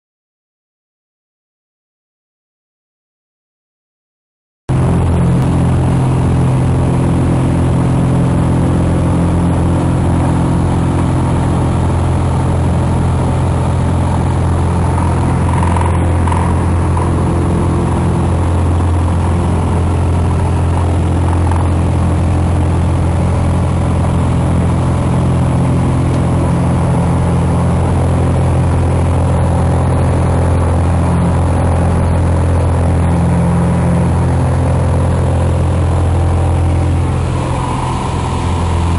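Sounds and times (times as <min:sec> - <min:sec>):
propeller plane engine droning: 0:04.7 - 0:38.9.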